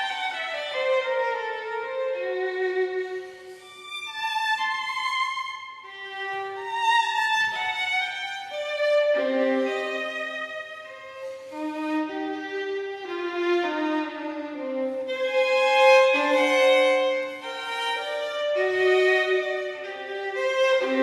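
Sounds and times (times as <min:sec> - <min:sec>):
bowed string melody: 0:00.0 - 0:21.0.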